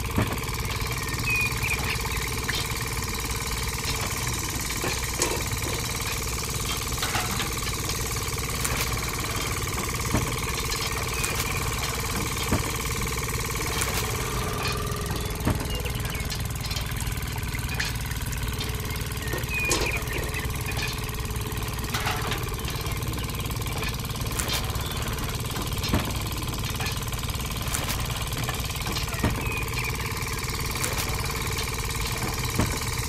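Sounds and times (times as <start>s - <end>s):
machine humming: 0.0s - 33.0s.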